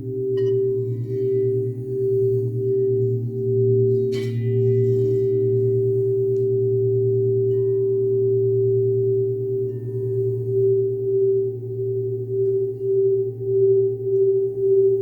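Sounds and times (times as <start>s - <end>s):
singing bowls ringing: 0.0s - 15.0s.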